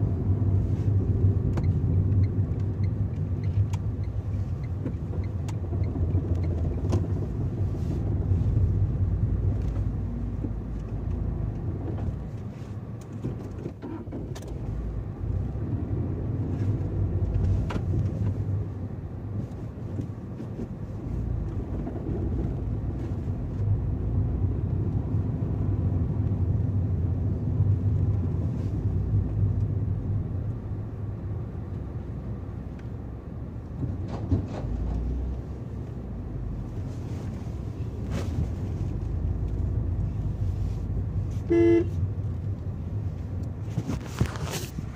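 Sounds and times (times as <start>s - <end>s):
car road rumble: 0.0s - 44.9s.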